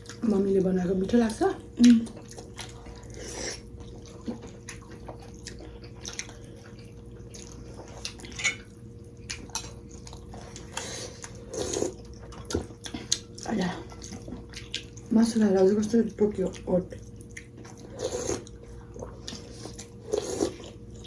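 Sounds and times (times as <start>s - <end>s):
faint steady hum: 0.0s - 21.0s
wet chewing and mouth smacks: 1.3s - 15.1s, 16.5s - 21.0s.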